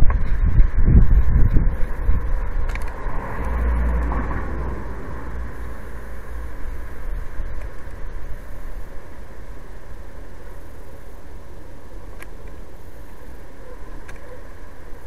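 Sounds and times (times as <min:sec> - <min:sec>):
outdoor background rumble and hiss: 0:00.0 - 0:15.0.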